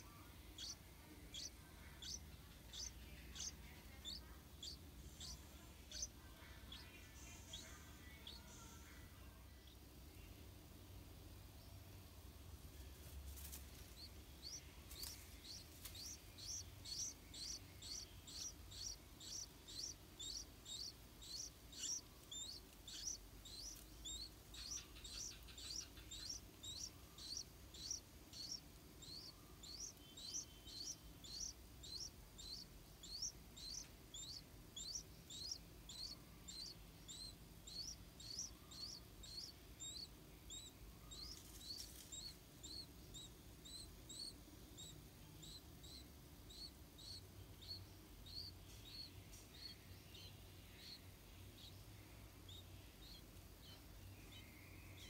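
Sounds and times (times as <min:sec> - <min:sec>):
nestlings chirping: 0:00.0 - 0:09.9, 0:11.5 - 0:55.0.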